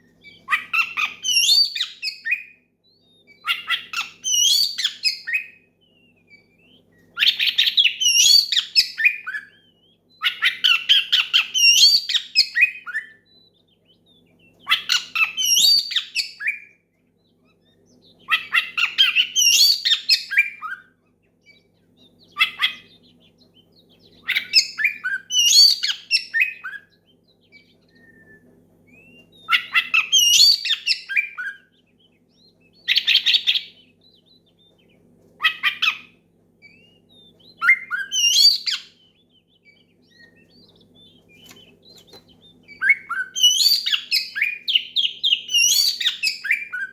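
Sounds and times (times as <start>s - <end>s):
bird singing whistled phrases: 0.0s - 46.9s
faint low hum: 0.0s - 46.9s.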